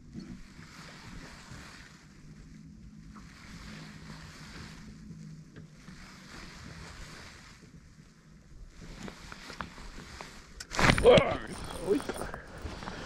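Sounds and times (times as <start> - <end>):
boat motor humming: 0.0 - 13.0
wind and water hiss: 0.0 - 13.0.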